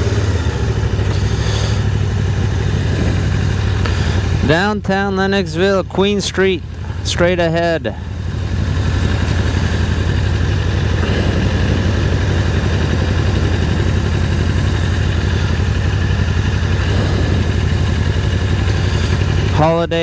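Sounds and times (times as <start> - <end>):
engine humming: 0.0 - 20.0
wind and road noise: 0.0 - 20.0.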